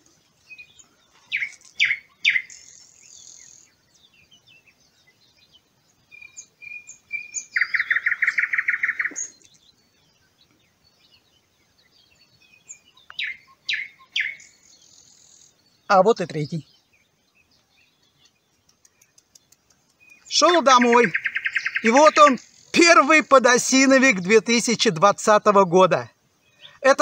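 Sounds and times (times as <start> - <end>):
loud rapid bird trill: 0.5 - 9.7, 11.1 - 17.2, 17.8 - 27.0.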